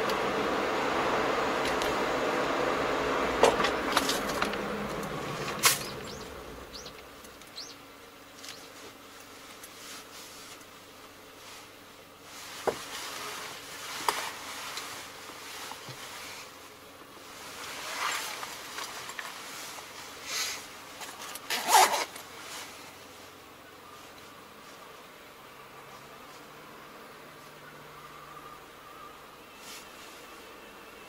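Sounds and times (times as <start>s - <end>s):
faint steady hum: 0.0s - 31.0s
road and engine noise: 0.0s - 31.0s.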